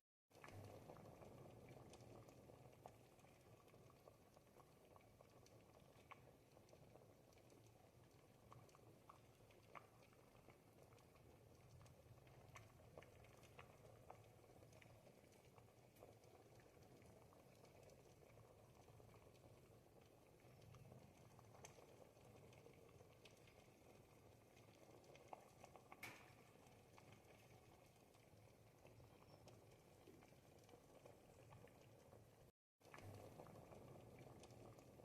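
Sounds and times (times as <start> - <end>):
soup simmering and bubbling: 0.3 - 35.0.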